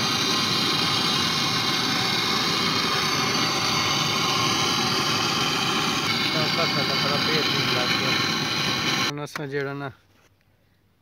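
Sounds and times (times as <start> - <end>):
gas torch flame hissing: 0.0 - 9.1.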